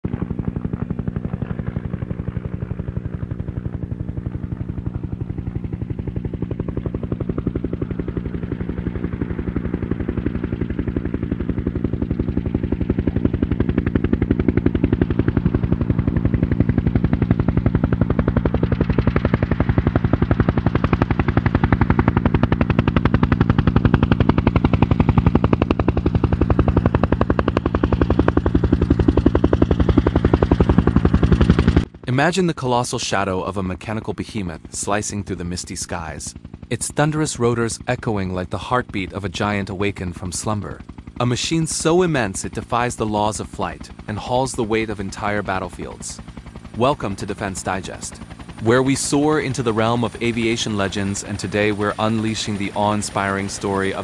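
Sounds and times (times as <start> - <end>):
helicopter rotor chop: 0.0 - 54.0
low turbine and gearbox hum: 0.0 - 54.0.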